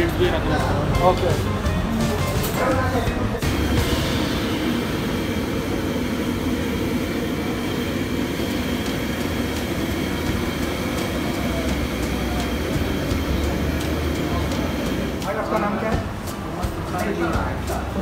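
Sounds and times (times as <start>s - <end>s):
gas burner rushing: 0.0s - 18.0s.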